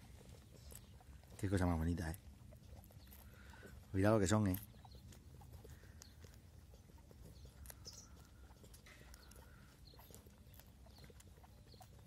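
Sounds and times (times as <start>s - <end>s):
puppies suckling: 0.0s - 12.0s.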